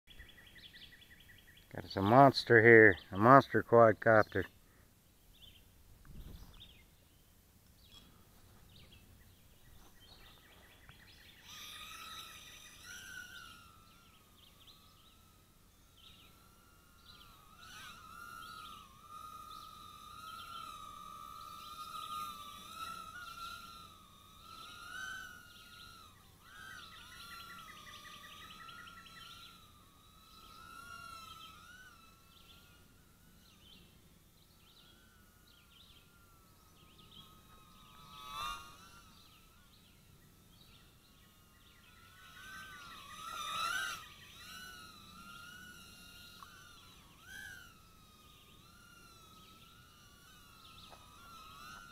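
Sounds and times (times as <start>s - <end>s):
quadcopter motors whining: 0.1s - 51.9s.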